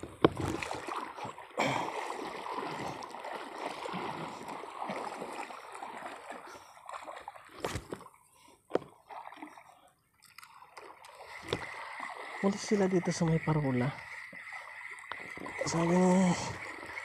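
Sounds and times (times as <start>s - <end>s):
shallow water lapping and splashing: 0.0s - 17.0s.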